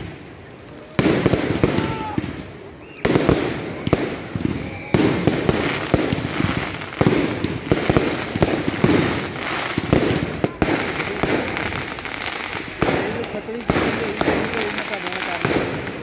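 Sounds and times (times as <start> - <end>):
fireworks bangs: 0.0 - 16.0
fireworks sharp pops: 0.9 - 16.0.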